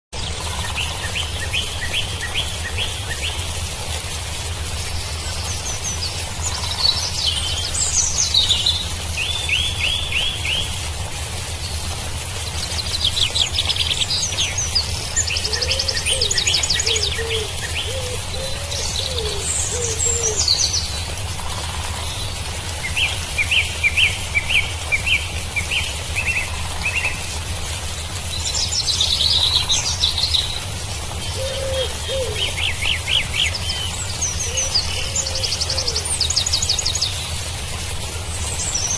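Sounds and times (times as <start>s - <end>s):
birds singing and calling: 4.9s - 27.2s, 27.8s - 38.9s.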